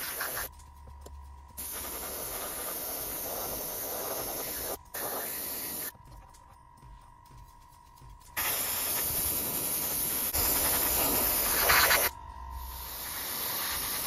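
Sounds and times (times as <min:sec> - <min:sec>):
airbrush spraying paint hiss: 0:00.0 - 0:14.0.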